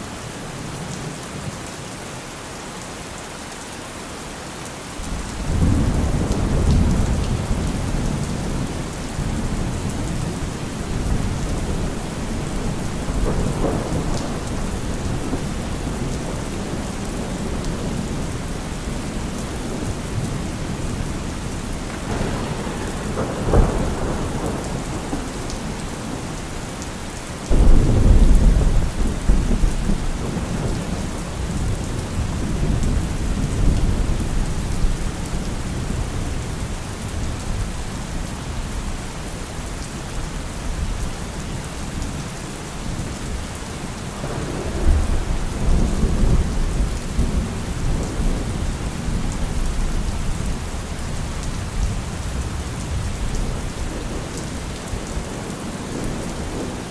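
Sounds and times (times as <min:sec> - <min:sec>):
steady rain falling: 0:00.0 - 0:56.9
rolling thunder: 0:05.0 - 0:39.0, 0:44.1 - 0:56.9.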